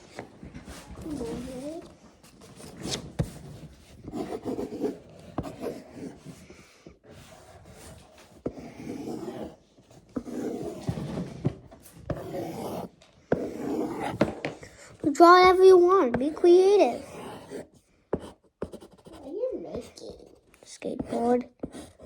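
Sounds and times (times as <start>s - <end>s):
pencil scratching on paper: 0.0s - 22.0s
pencil tapping: 2.7s - 22.0s.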